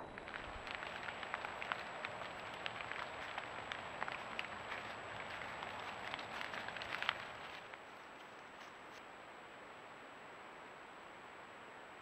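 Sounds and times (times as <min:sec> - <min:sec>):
crackling and rustling leaves: 0:00.0 - 0:12.0.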